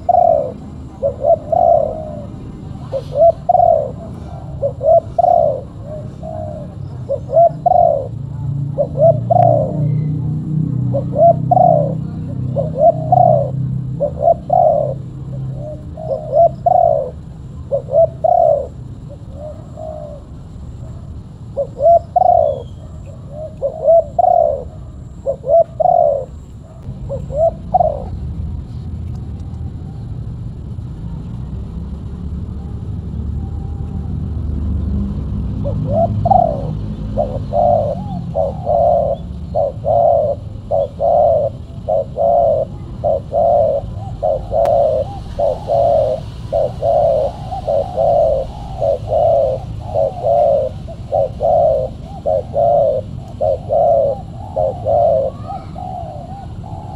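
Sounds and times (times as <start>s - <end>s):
dove cooing: 0.0s - 28.3s, 32.6s - 56.9s
low steady rumble: 0.0s - 56.9s.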